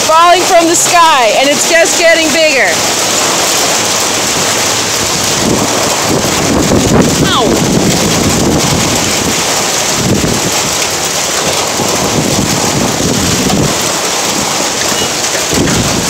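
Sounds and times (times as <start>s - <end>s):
hail and rain pelting down: 0.0s - 16.0s.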